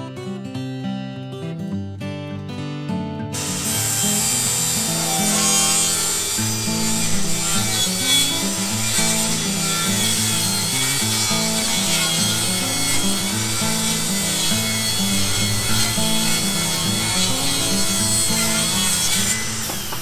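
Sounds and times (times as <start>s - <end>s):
table saw cutting wood: 3.4s - 20.0s.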